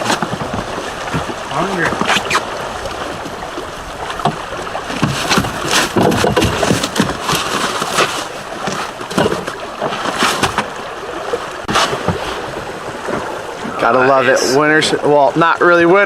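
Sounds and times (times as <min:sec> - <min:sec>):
river water rushing: 0:00.0 - 0:16.0
wind: 0:00.0 - 0:16.0.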